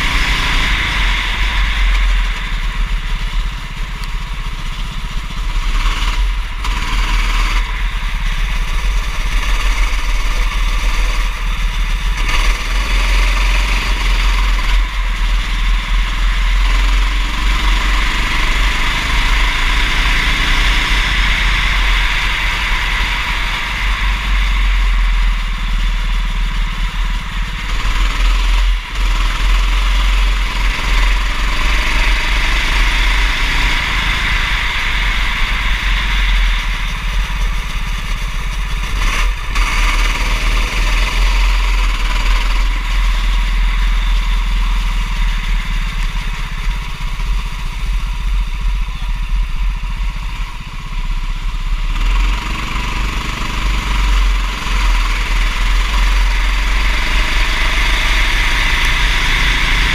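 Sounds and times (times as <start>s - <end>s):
go-kart engine running: 0.0s - 59.9s
steady loud noise: 0.0s - 59.9s.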